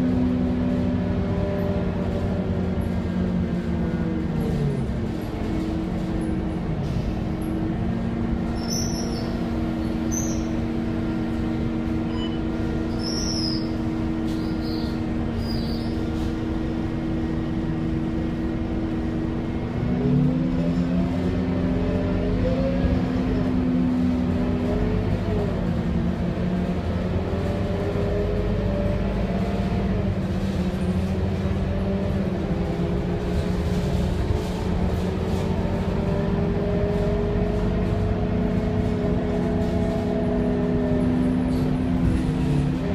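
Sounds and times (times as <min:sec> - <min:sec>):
bus diesel engine idling and revving: 0:00.0 - 0:42.9.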